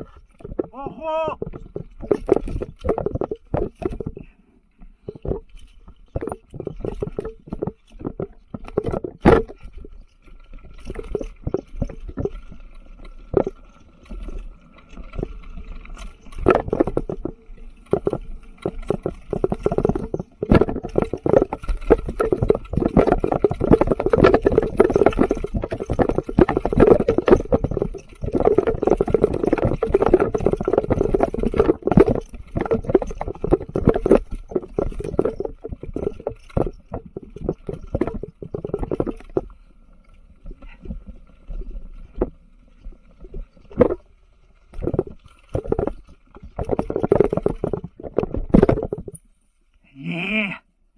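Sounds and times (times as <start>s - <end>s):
tyres knocking over rocks: 0.0s - 4.2s, 5.0s - 39.6s, 44.7s - 49.2s
bike frame and chain rattling: 0.0s - 4.3s, 4.9s - 49.4s.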